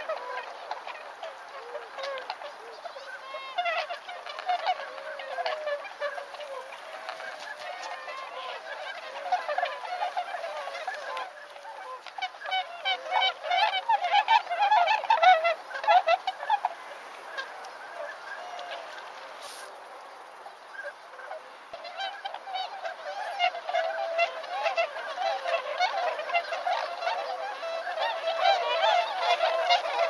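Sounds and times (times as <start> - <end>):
swans honking: 0.0 - 30.0.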